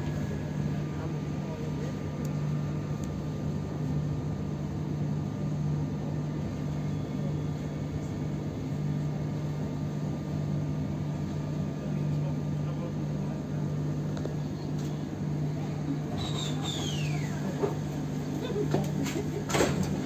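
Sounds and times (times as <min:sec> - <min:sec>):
train carriage hum and rumble: 0:00.0 - 0:20.0.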